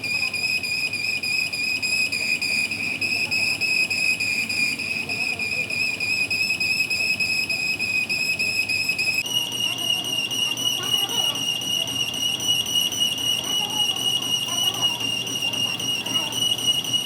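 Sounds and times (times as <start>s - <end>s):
high-pitched machine whine: 0.0s - 17.0s.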